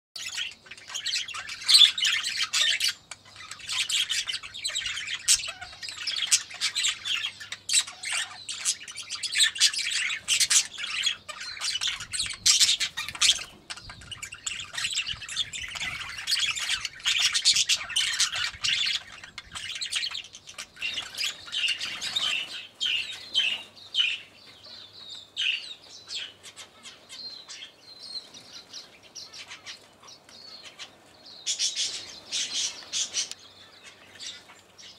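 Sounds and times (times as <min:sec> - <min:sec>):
birds chirping and squawking: 0:00.2 - 0:34.9.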